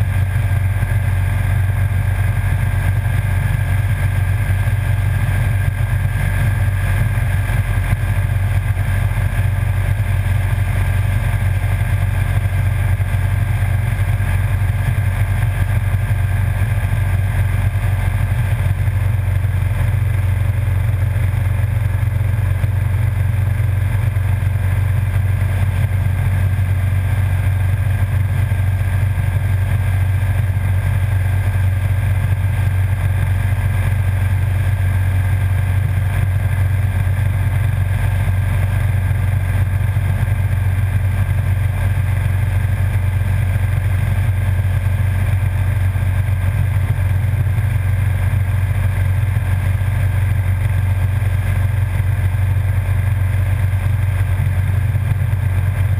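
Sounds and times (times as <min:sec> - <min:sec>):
wind and road noise: 0:00.0 - 0:52.0
motorcycle engine drone: 0:00.0 - 0:55.9.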